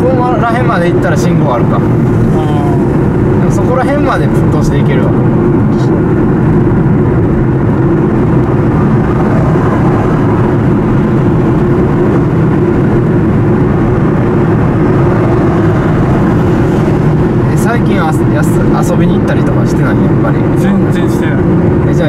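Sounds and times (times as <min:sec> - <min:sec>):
car driving heard from inside: 0:00.0 - 0:22.0.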